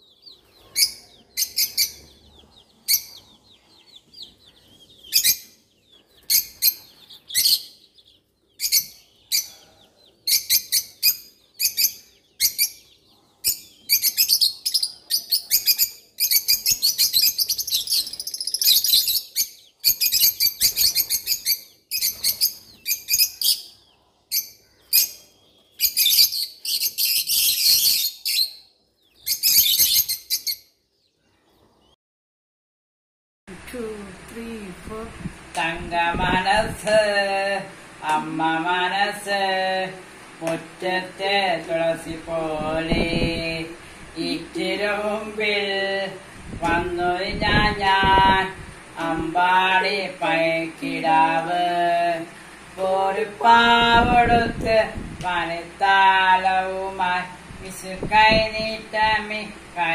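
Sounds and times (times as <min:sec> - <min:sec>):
small birds chirping: 0:00.0 - 0:32.0, 0:33.7 - 0:59.9.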